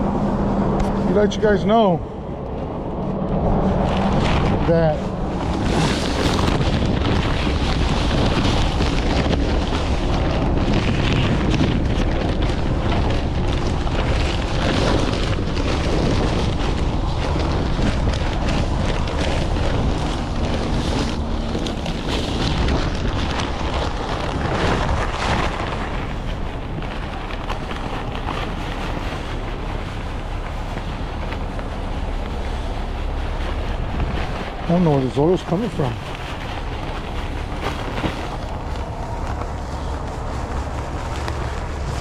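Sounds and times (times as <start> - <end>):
strong wind on microphone: 0.0 - 42.0.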